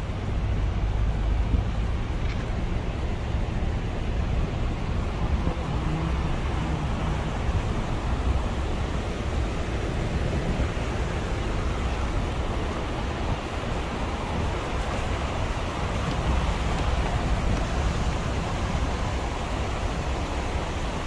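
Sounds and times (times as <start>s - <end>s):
vehicle road rumble: 0.0s - 21.0s
wind buffeting microphone: 0.0s - 21.0s.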